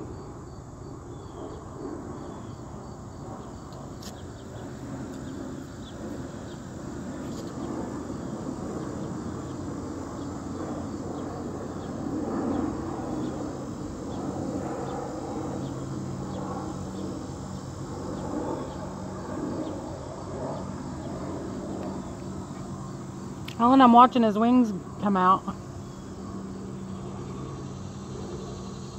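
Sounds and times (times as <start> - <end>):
insects chirping: 0.0 - 28.9.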